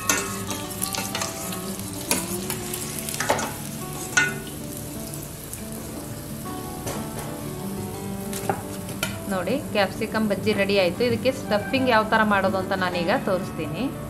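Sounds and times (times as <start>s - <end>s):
fritters sizzling in hot oil: 0.0s - 11.4s.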